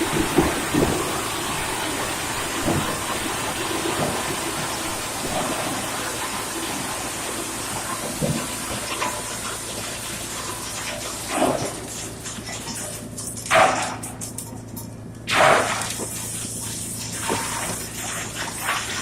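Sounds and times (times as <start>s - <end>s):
wood chipper running: 0.0s - 19.0s.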